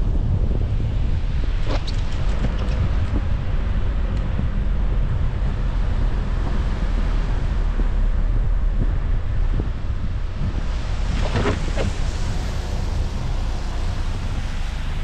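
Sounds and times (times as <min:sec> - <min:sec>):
car driving on snow: 0:00.0 - 0:15.0
wind buffeting microphone: 0:00.0 - 0:15.0.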